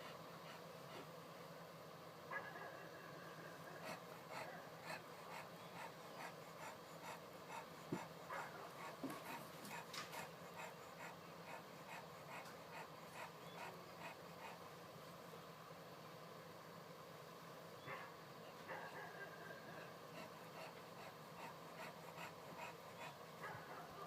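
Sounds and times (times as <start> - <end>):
faint rhythmic panting: 0.0 - 24.0.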